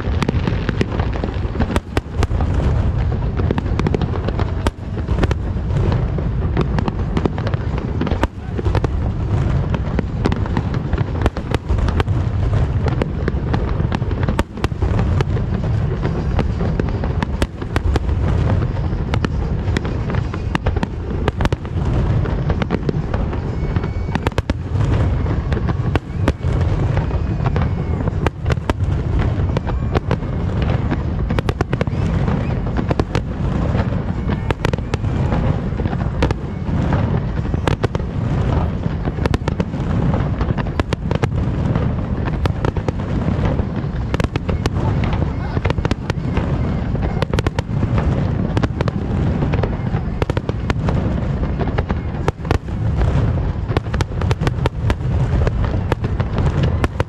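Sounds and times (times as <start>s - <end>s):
low fireworks rumble: 0.0s - 57.0s.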